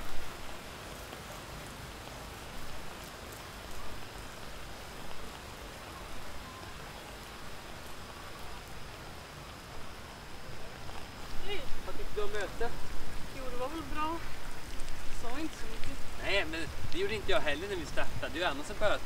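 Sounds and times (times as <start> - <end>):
light rain on wet street: 0.0 - 19.0.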